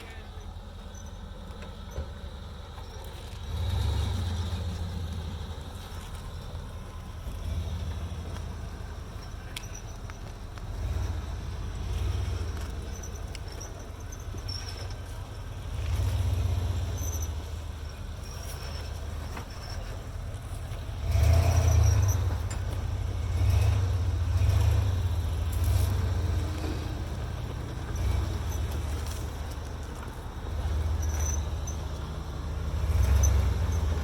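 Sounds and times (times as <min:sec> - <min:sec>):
engine rumble with throttle surging: 0:00.0 - 0:34.0.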